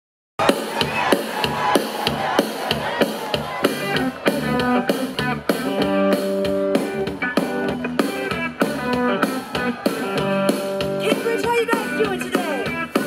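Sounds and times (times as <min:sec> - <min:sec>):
drum-kit beat: 0:00.4 - 0:13.0
guitar chords: 0:00.4 - 0:13.0
rock band playing live: 0:00.4 - 0:13.0.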